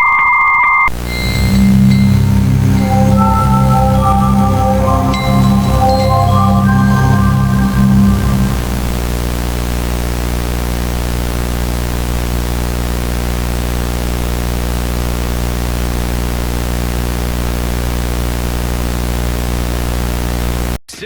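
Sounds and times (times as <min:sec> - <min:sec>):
low buzzing hum: 0:00.9 - 0:20.8
static hiss: 0:00.9 - 0:20.8.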